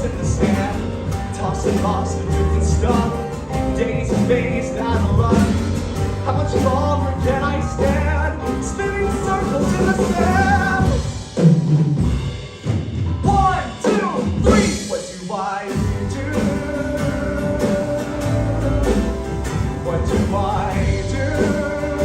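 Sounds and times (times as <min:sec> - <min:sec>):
person singing: 0:00.0 - 0:11.1, 0:13.2 - 0:22.0
band playing with drum kit: 0:00.0 - 0:22.0.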